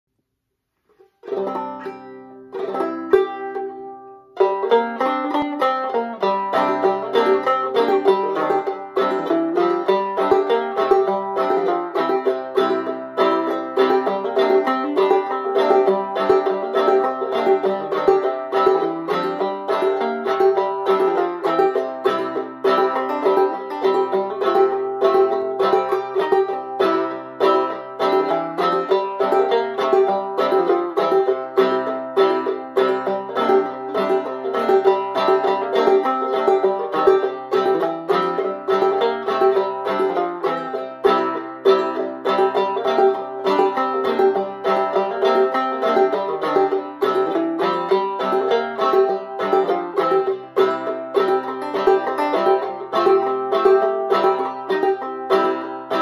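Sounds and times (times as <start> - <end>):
banjo playing: 0.7 - 56.0.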